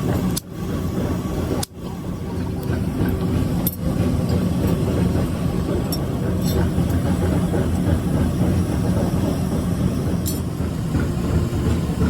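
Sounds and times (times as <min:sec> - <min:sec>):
workshop machinery rumbling: 0:00.0 - 0:12.0.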